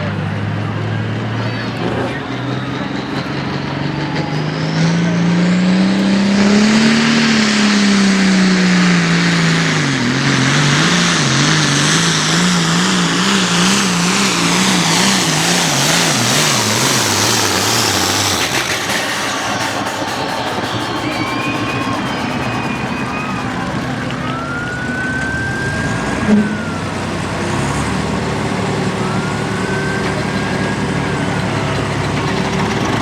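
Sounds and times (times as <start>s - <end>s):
diesel tractor engine labouring: 0.0s - 33.0s.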